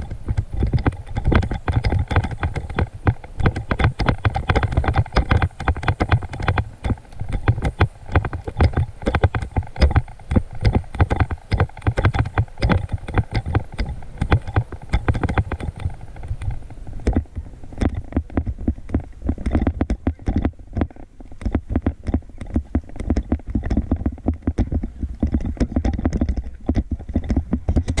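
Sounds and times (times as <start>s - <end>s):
bike knocking and rattling: 0.0s - 28.0s.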